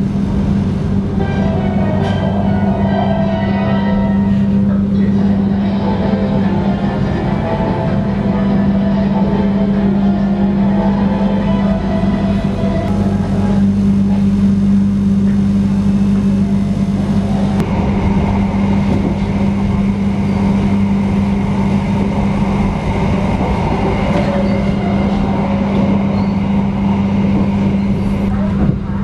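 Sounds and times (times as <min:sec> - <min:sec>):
rumble from the rails: 0:00.0 - 0:29.0
train interior hum: 0:00.0 - 0:29.0.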